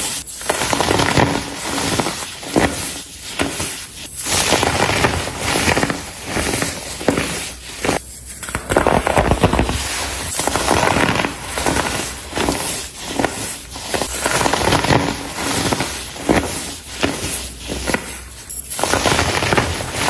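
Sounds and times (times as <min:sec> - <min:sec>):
baking soda blocks crunching: 0:00.0 - 0:20.0.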